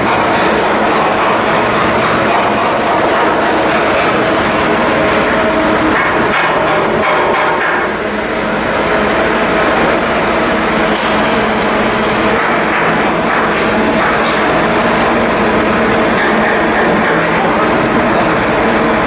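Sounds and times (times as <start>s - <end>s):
heavy machinery rumbling: 0.0s - 19.0s.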